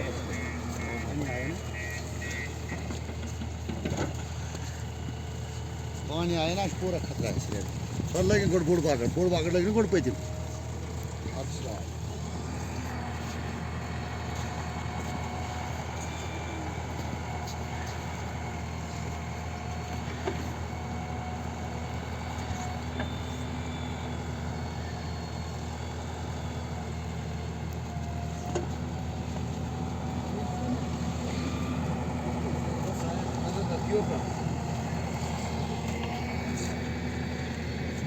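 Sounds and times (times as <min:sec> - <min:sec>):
heavy engine humming: 0:00.0 - 0:38.0.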